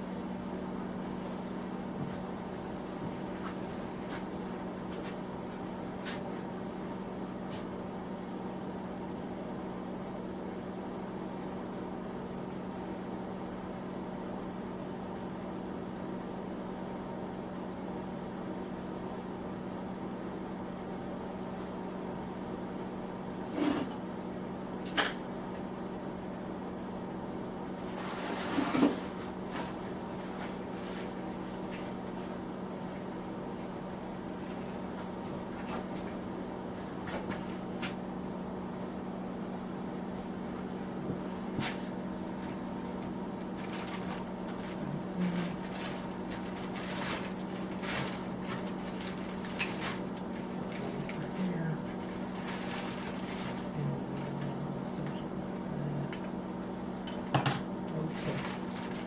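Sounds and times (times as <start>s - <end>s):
electric heater hum: 0.0s - 59.0s.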